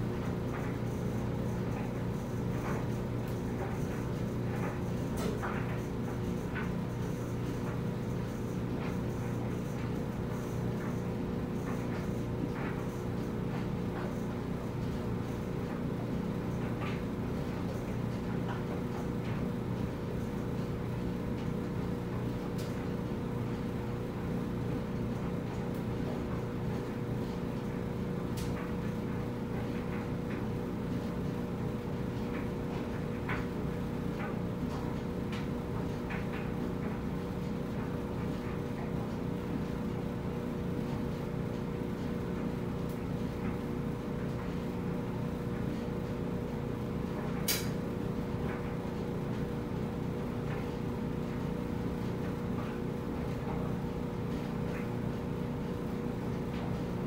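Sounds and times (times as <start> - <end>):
clothes dryer rumbling: 0.0 - 57.0.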